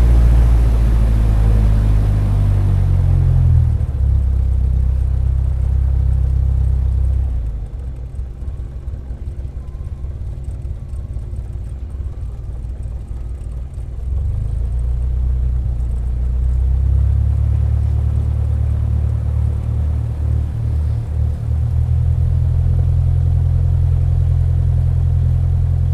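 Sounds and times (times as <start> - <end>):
aircraft engine rumble: 0.0 - 25.9.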